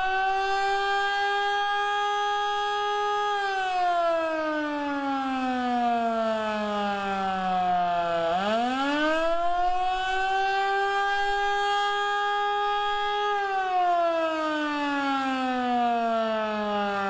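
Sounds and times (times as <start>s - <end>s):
outdoor warning siren: 0.0s - 17.0s.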